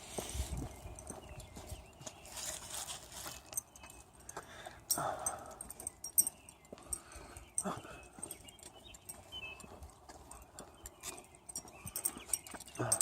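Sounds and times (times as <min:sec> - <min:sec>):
dog paws clicking and tapping: 0:00.2 - 0:13.0
faint bird chirps: 0:00.3 - 0:13.0.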